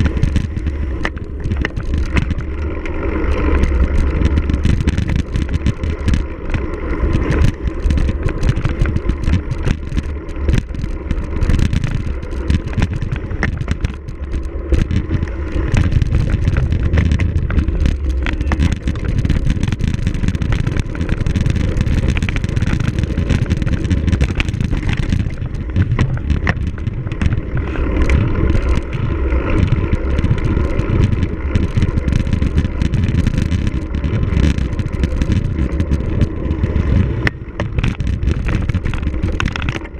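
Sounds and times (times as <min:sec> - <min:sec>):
bike rattling over rough ground: 0:00.0 - 0:39.9
wind rumble on microphone: 0:00.0 - 0:39.9.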